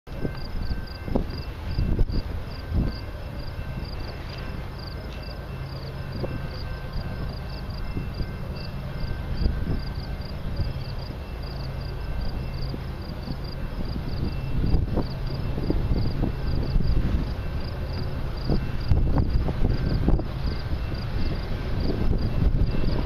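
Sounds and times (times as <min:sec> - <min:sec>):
crickets chirping: 0:00.2 - 0:23.0.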